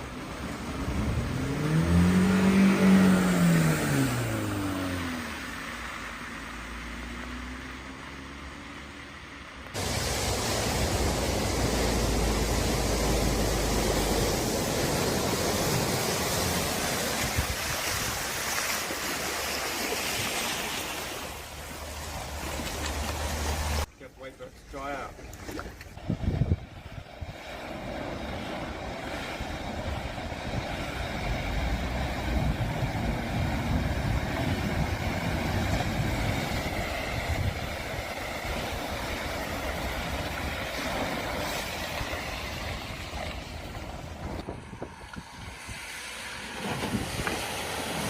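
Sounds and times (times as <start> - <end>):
water washing: 0.0 - 7.4, 9.7 - 23.9, 24.6 - 48.0
vehicle engine rumble: 0.0 - 18.7, 21.2 - 24.0, 25.2 - 48.0.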